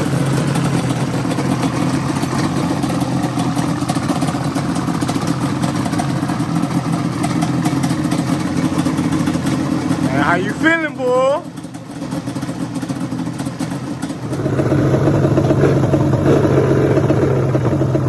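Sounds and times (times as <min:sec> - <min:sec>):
quad engine idling: 0:00.0 - 0:18.0.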